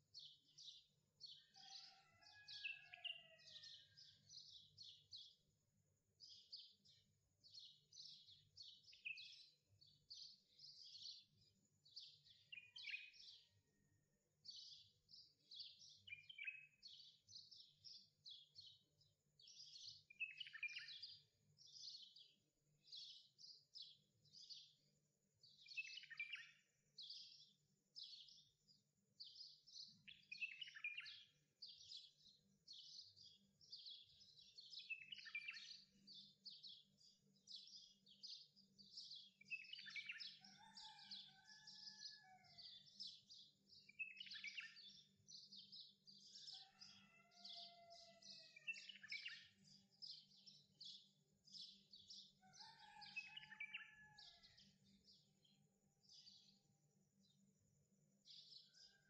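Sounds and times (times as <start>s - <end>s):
faint bird chirping: 0.0s - 54.5s, 55.2s - 59.0s.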